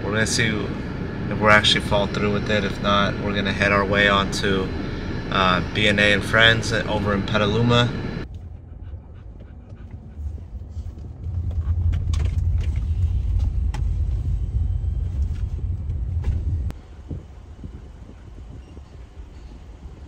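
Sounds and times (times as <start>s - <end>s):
engine and road rumble: 0.0s - 19.9s.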